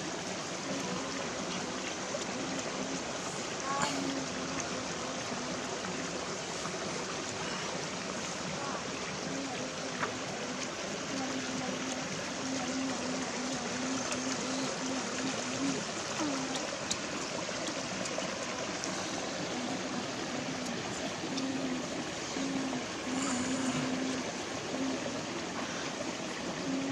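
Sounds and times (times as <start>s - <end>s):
stream running over stones: 0.0s - 26.9s.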